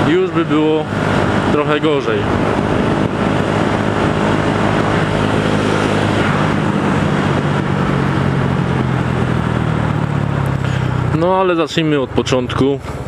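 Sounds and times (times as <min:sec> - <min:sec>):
wind rush on microphone: 0:00.0 - 0:11.5
motorcycle engine cruising: 0:00.0 - 0:13.0.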